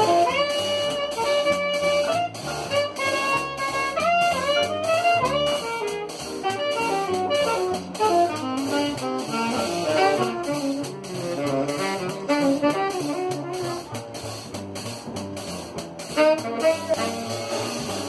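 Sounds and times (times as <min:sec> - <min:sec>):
saxophone melody: 0:00.0 - 0:14.6, 0:16.0 - 0:18.0
drum kit and cymbals: 0:00.0 - 0:18.0
upright bass: 0:00.0 - 0:18.0.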